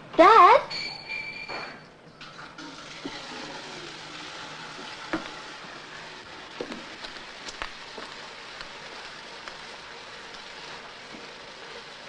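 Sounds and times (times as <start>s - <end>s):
film soundtrack hiss and crackle: 1.8s - 12.0s.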